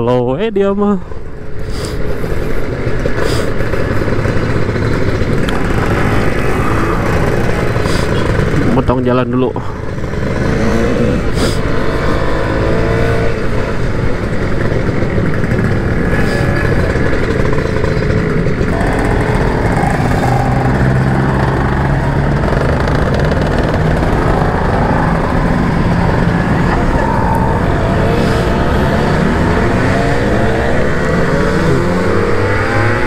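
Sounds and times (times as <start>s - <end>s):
two-stroke motorcycle engine: 1.2s - 33.0s.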